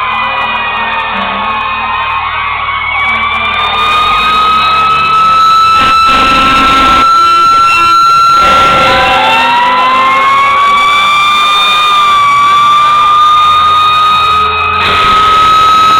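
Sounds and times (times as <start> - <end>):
high steady siren: 0.0 - 15.9
siren winding up: 0.0 - 15.9.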